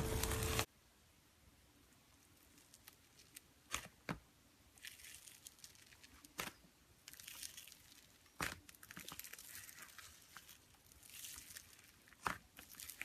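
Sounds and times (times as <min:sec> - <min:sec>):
sticky slime crackling: 0:02.3 - 0:13.0.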